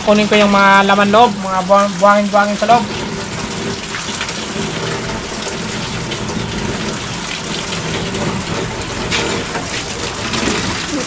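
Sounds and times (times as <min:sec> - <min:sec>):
tap water running into sink: 0:00.3 - 0:11.0.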